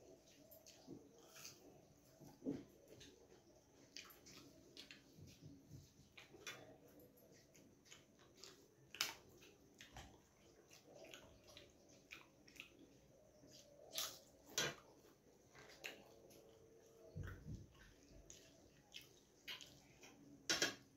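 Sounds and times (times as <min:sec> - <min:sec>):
wet chewing and lip smacks: 0:02.8 - 0:20.4.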